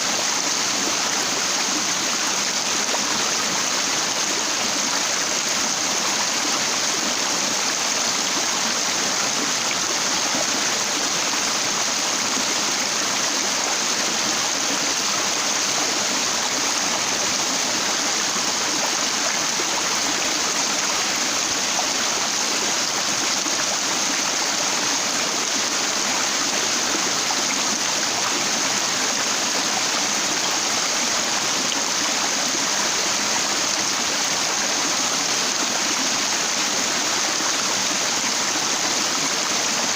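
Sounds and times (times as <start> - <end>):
stream water rushing over rock: 0.0 - 39.9.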